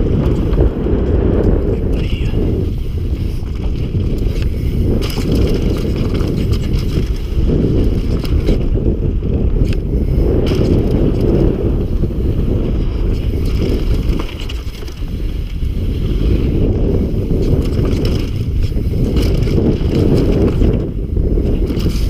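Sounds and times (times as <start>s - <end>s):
bike clicks and rattles: 0.0s - 22.0s
tyres rolling over wooden boardwalk: 0.0s - 22.0s
wind buffeting microphone: 0.0s - 22.0s.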